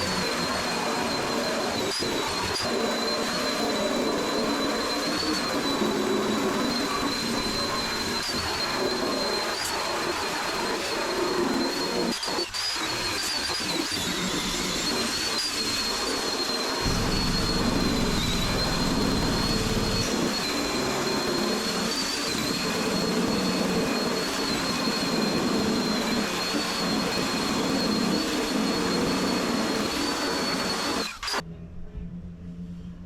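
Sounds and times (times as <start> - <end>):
power tool whining and grinding: 0.0 - 31.4.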